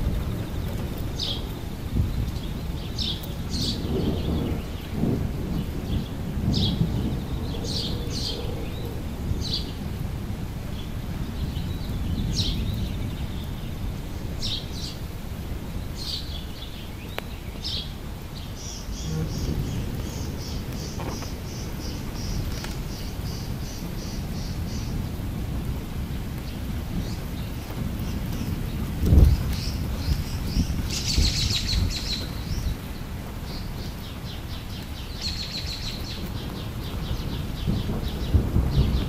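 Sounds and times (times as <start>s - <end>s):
low uneven rumble: 0.0s - 33.8s
songbirds chirping: 0.0s - 39.0s.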